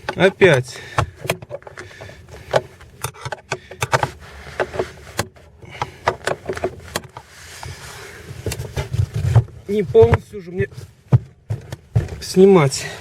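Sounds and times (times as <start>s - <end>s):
clicks knocks and scrapes at seat mount: 0.0s - 12.4s.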